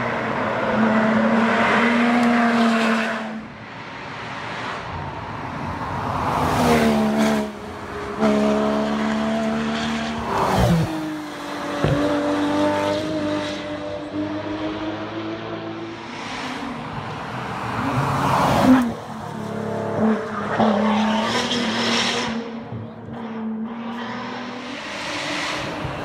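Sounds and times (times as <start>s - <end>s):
race car engine passing: 0.0s - 26.0s.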